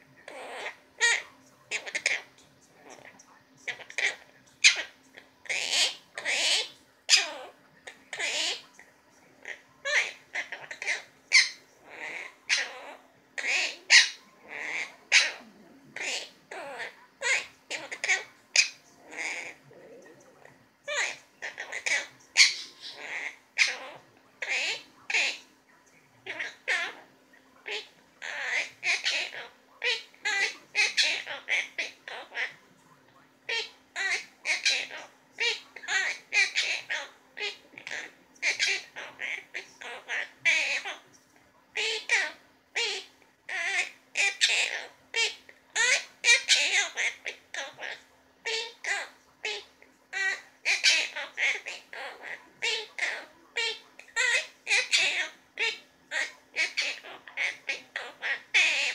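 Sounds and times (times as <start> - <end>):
parrot harsh calls: 0.2 - 8.7, 9.4 - 25.5, 26.2 - 32.6, 33.5 - 41.1, 41.7 - 58.9.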